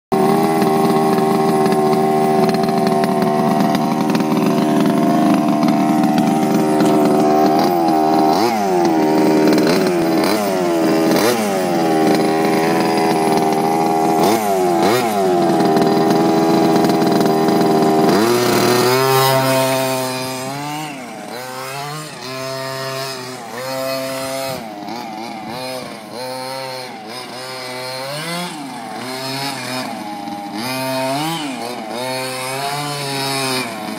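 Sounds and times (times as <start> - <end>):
model car engine revving: 0.1 - 33.9.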